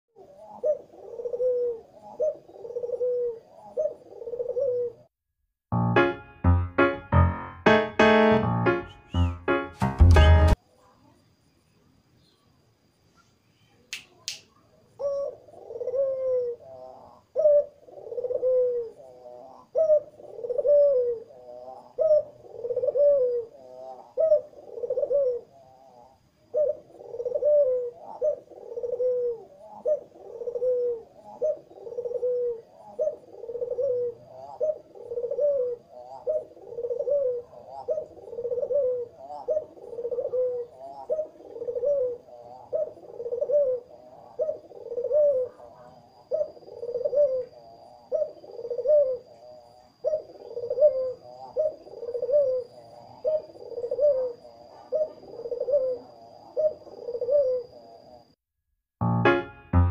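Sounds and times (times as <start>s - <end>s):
dove cooing: 0.2s - 5.1s, 14.9s - 58.4s.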